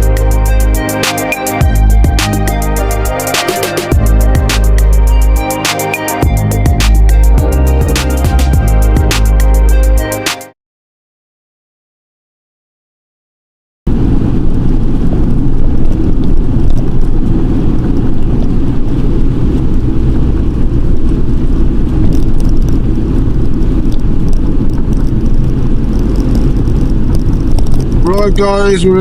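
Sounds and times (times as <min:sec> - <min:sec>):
truck engine and road rumble: 0:00.0 - 0:10.1, 0:13.9 - 0:29.0.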